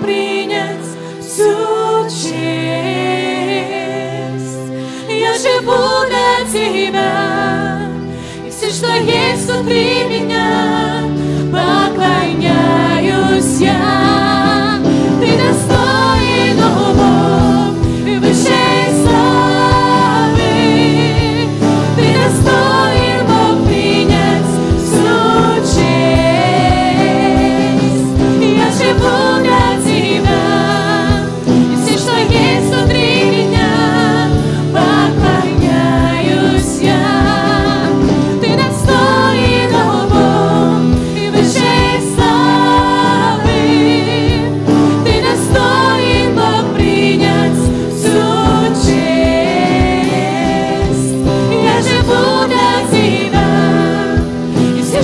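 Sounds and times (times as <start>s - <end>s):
digital piano: 0.0s - 55.0s
electric guitars: 0.0s - 55.0s
women singing into microphones: 0.0s - 55.0s
bass guitar: 9.2s - 55.0s.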